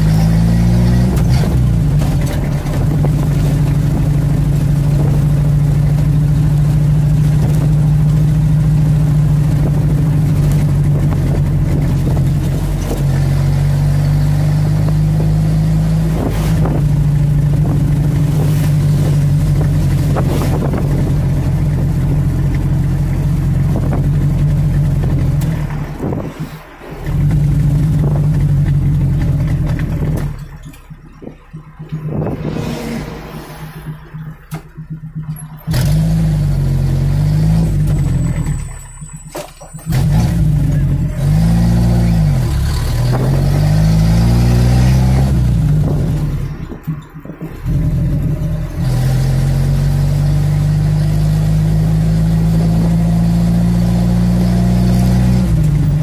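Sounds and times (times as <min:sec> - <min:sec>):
car engine while driving: 0:00.0 - 0:56.0.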